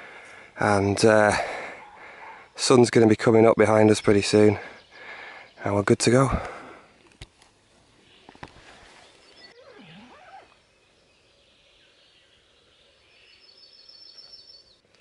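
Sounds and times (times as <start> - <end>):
distant birds singing: 0.0 - 15.0.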